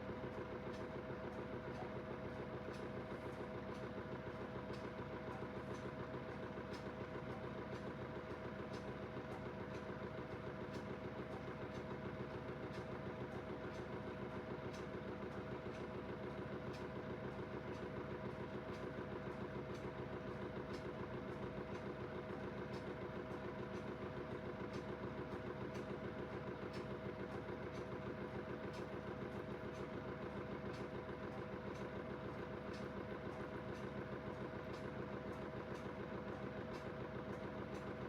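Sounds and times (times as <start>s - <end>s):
washing machine motor humming: 0.0s - 38.0s.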